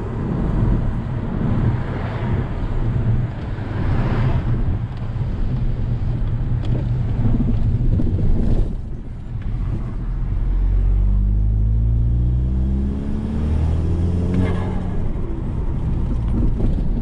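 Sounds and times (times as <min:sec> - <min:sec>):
road and tyre noise: 0:00.0 - 0:17.0.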